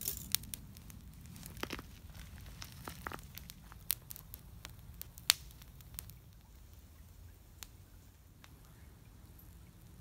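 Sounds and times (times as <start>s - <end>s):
twig fire crackling and popping: 0.0s - 10.0s.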